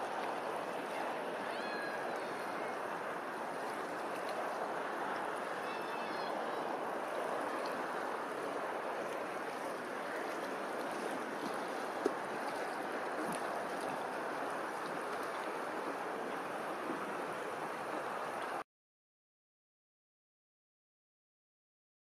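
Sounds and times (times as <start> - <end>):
small waves lapping: 0.0 - 18.6.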